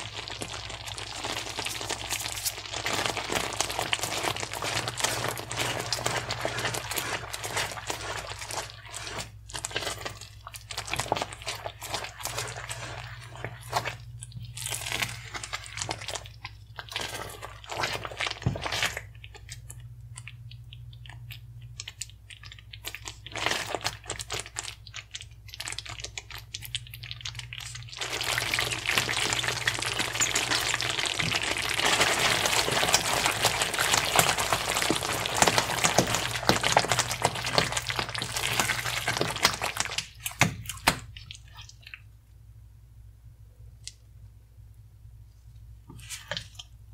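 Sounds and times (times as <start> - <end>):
sauce squelching when stirred: 0.0 - 42.2.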